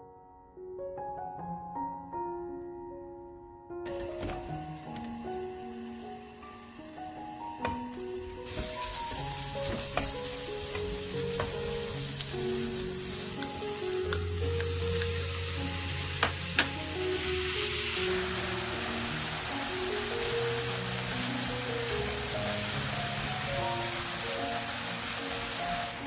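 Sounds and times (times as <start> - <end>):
background music: 0.0 - 26.0
onions sizzling in hot oil: 3.9 - 26.0.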